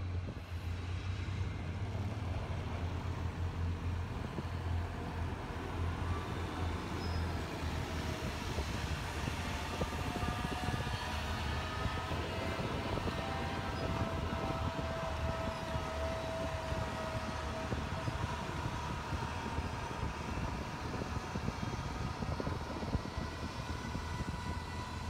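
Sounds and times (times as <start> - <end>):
tractor engine hum: 0.0 - 25.0.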